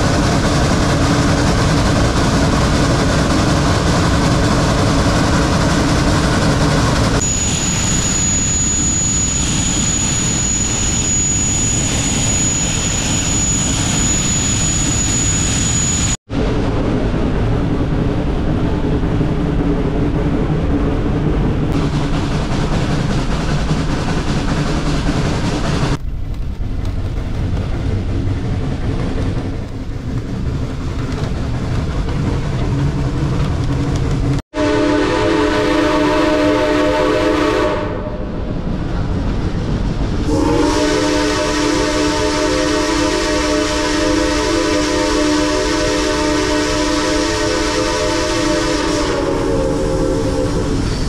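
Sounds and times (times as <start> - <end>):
train rumble and rush: 0.0 - 51.0.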